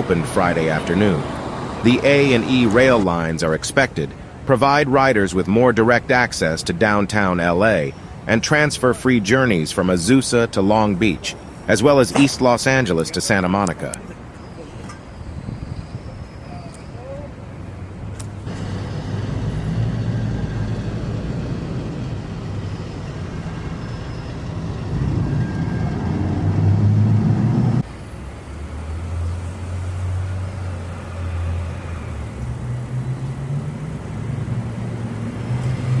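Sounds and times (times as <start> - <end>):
low vehicle rumble: 0.0 - 12.6, 13.8 - 36.0.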